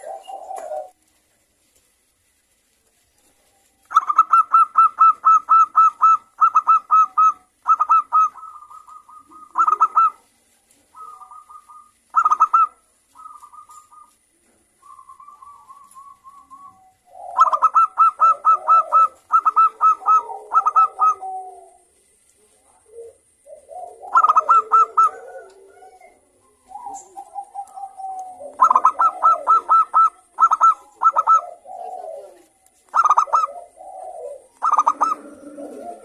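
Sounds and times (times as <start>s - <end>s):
dove cooing song: 0.0s - 1.0s, 3.3s - 36.0s
lower dove cooing: 0.0s - 1.2s, 3.2s - 36.0s.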